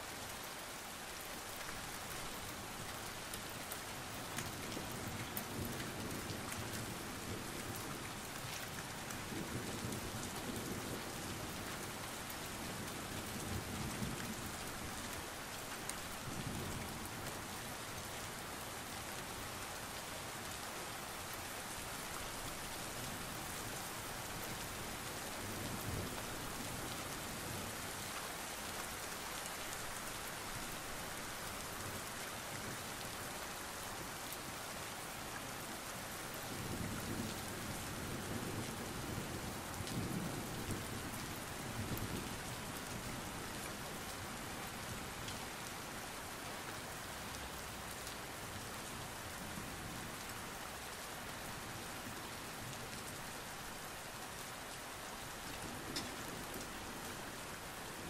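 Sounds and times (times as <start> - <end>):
rain on hard surfaces: 0.0 - 58.0.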